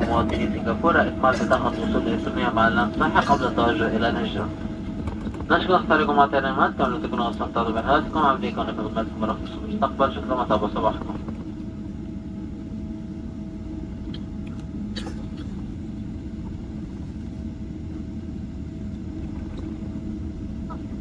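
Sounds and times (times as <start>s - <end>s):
faint steady hum: 0.0s - 21.0s
low rumble of engines and wheels: 0.0s - 21.0s.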